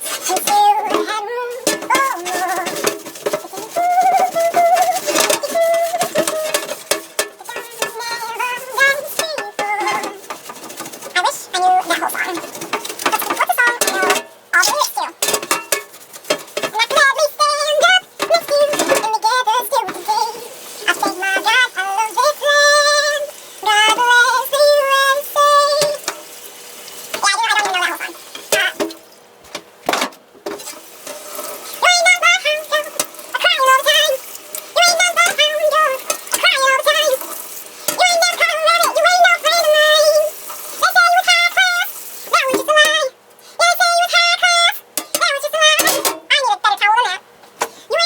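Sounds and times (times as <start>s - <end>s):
woman singing unaccompanied: 0.0s - 15.3s, 16.3s - 26.2s, 27.2s - 28.8s, 31.7s - 47.2s.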